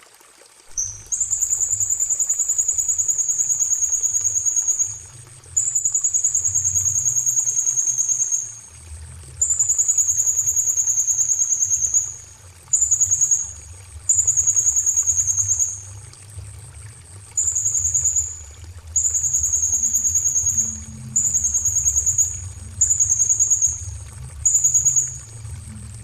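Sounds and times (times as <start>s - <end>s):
songbird trilling: 0.7s - 8.6s, 9.4s - 15.8s, 17.4s - 25.2s.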